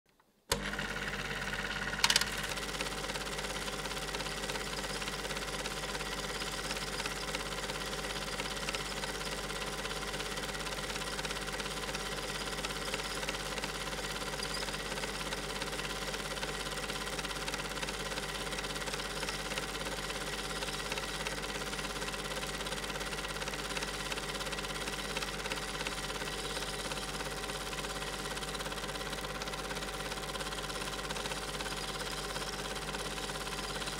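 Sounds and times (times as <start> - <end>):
film projector whirring: 0.5 - 33.9.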